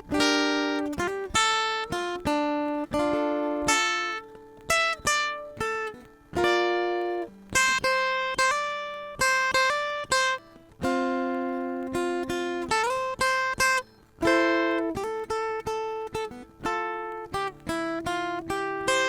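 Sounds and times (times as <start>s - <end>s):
acoustic guitar slow tune: 0.0s - 19.0s.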